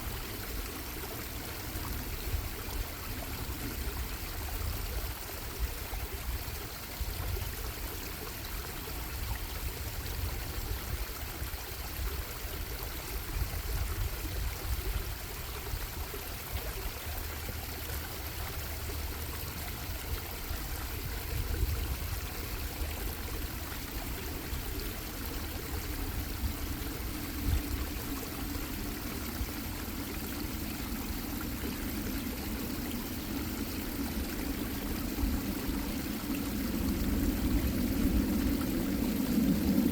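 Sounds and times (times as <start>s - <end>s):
bubbling stream flowing: 0.0s - 39.9s.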